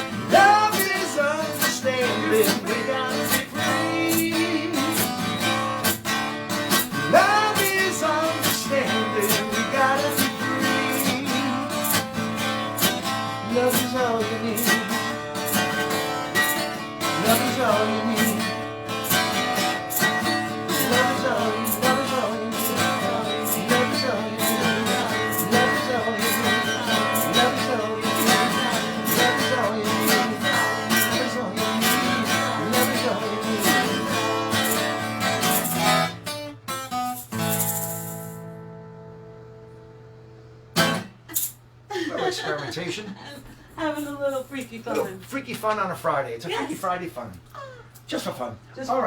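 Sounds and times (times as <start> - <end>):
acoustic guitar strumming chords: 0.0 - 41.3.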